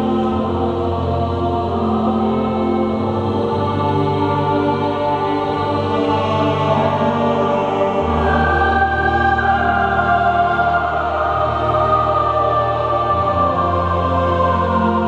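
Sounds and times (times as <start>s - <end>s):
mixed choir singing chords: 0.0s - 15.0s.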